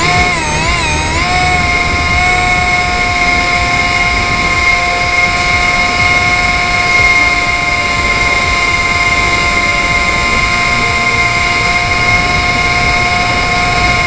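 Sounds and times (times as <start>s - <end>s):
low wind rumble: 0.0s - 14.0s
model plane motor whine: 0.0s - 14.0s.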